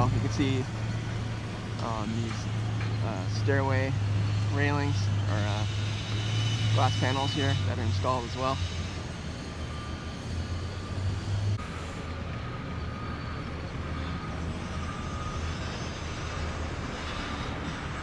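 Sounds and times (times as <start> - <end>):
heavy vehicle engine running: 0.0 - 18.0
low traffic hum: 0.0 - 18.0.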